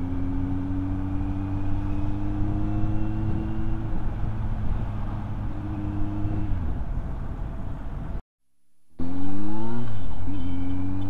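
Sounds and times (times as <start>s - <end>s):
road and wind noise: 0.0s - 8.2s, 8.9s - 11.0s.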